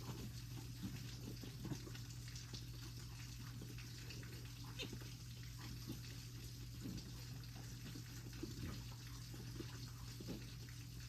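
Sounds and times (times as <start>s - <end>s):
goat kid sucking and swallowing: 0.0s - 11.0s.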